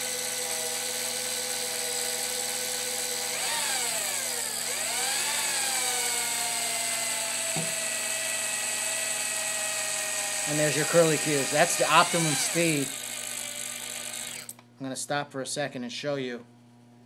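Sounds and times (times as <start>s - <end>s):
hand drill motor whining: 0.0s - 14.6s.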